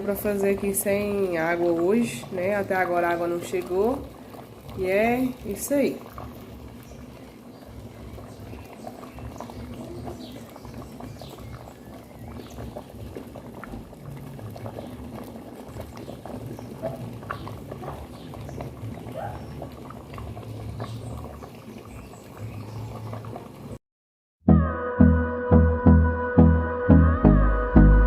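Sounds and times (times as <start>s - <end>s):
rain pattering: 0.0s - 23.8s.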